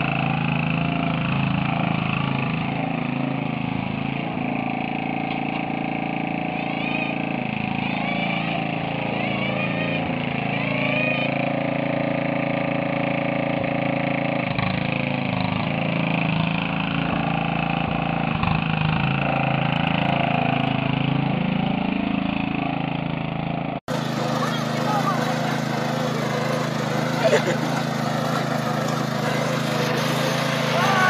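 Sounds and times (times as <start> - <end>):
riding lawn mower engine running: 0.0 - 31.0.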